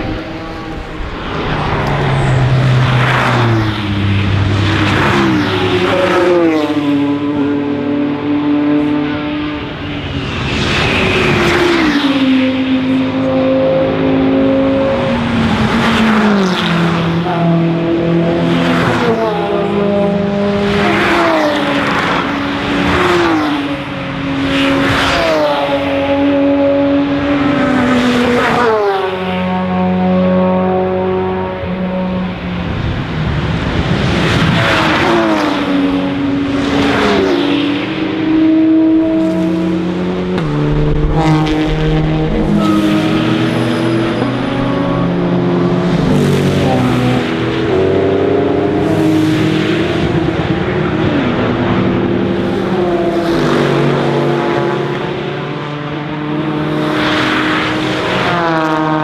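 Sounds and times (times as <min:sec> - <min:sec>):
race cars passing accelerating: 0:00.0 - 0:59.0.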